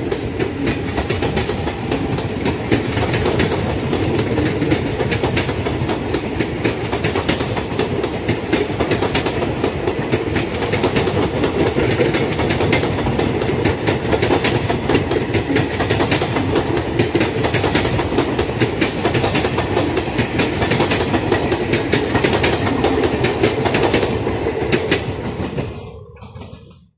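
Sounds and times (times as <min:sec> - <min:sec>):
train wheels clickety-clack: 0:00.0 - 0:26.9.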